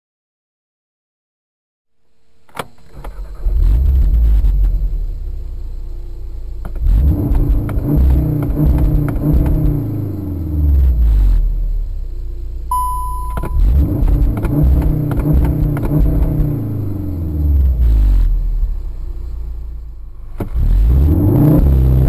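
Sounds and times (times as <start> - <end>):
car engine rumbling: 2.2 - 22.0.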